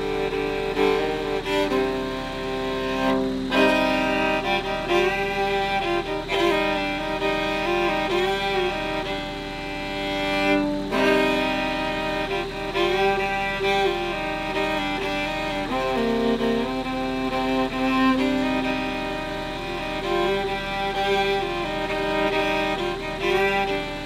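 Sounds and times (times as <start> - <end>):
slow string melody: 0.0 - 24.0.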